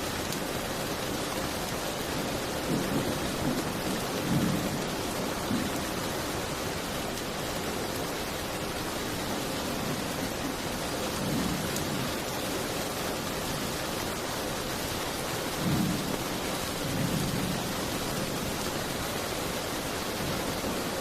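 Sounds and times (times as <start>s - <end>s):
rain falling against a window: 0.0s - 21.0s.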